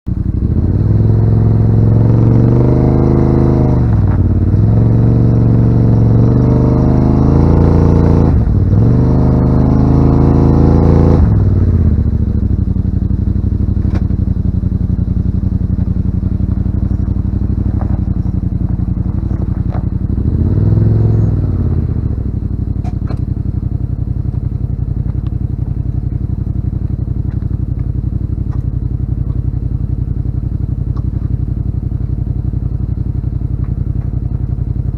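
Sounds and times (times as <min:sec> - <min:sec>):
utility vehicle engine revving: 0:00.2 - 0:34.9.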